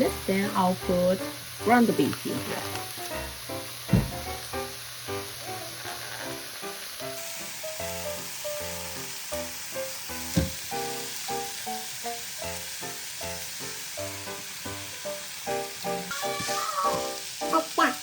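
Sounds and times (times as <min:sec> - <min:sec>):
plucked background music: 0:00.0 - 0:18.0
vegetables sizzling in a frying pan: 0:00.0 - 0:18.0.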